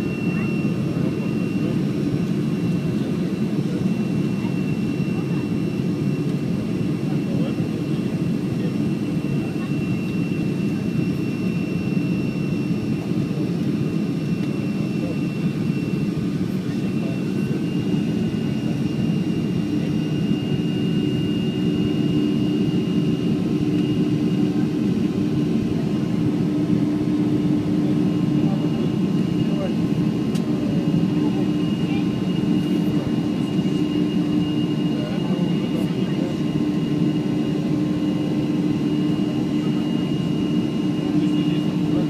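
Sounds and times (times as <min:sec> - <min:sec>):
jet engine noise in cabin: 0:00.0 - 0:42.0.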